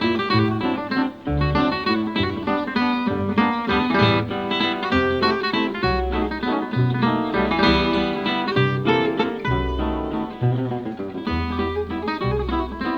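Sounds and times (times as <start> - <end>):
acoustic guitar plucking: 0.0 - 12.9.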